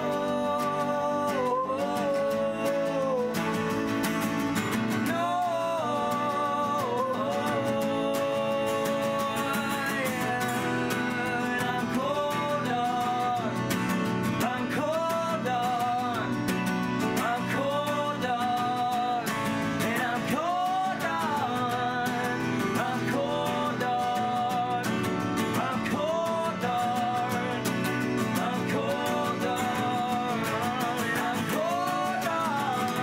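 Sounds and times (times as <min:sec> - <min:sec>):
acoustic guitars strummed: 0:00.0 - 0:33.0
men singing: 0:00.0 - 0:33.0.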